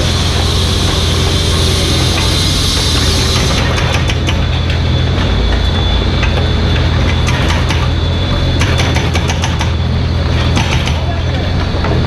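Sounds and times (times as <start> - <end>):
diesel engine running: 0.0 - 12.0
thin high whine: 0.0 - 12.0.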